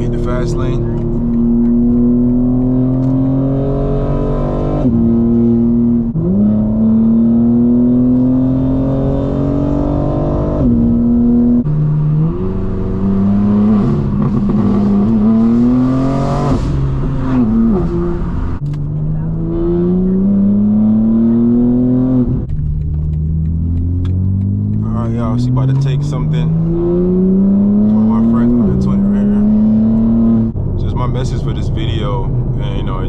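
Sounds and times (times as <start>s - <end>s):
car engine accelerating through gears: 0.0s - 33.0s.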